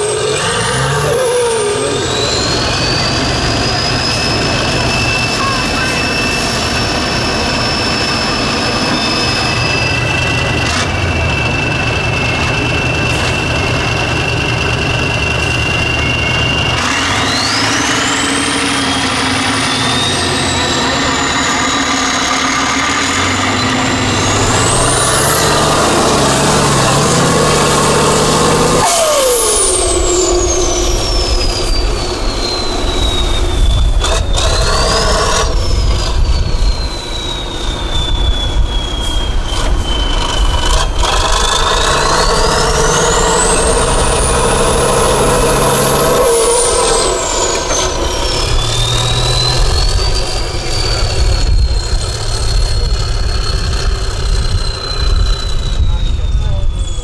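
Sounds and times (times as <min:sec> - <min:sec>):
diesel engine revving: 0:00.0 - 0:57.0
turbo whistle: 0:00.0 - 0:57.0.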